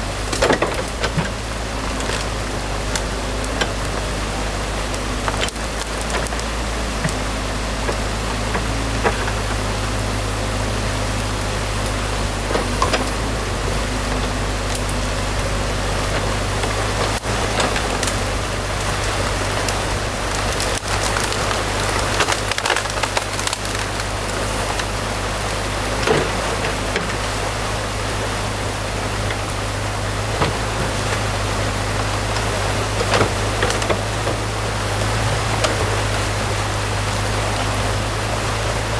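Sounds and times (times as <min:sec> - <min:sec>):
diesel engine running: 0:00.0 - 0:38.9
water rushing: 0:00.0 - 0:38.9
sticks and branches cracking: 0:00.2 - 0:09.8, 0:11.2 - 0:27.9, 0:29.2 - 0:36.4.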